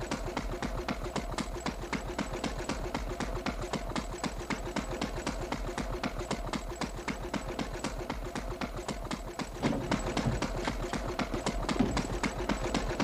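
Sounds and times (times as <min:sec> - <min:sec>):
fast even clicking: 0:00.0 - 0:13.0.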